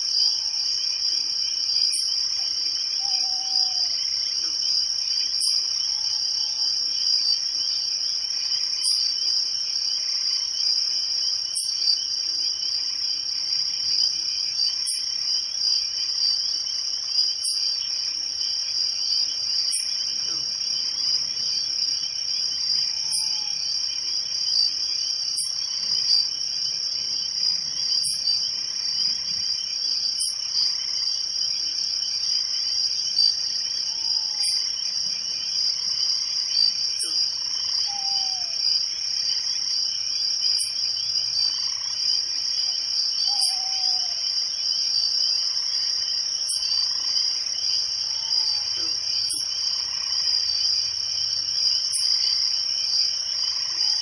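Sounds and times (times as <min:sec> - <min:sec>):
crickets chirping chorus: 0:00.0 - 0:54.0.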